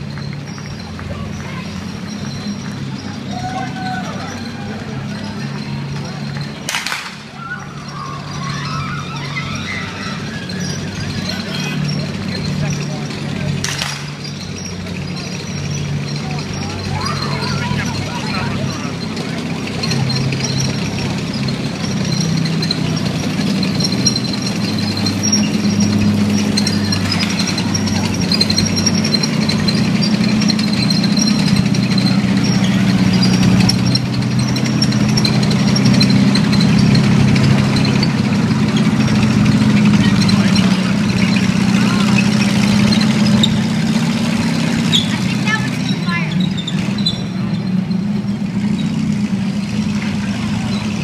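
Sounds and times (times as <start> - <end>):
tracked vehicle engines droning: 0.0 - 51.0.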